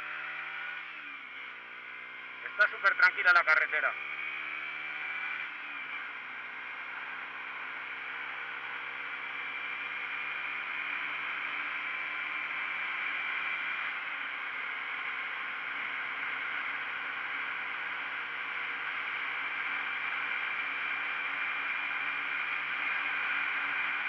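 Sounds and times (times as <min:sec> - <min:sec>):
motorcycle engine running: 0:04.0 - 0:24.0.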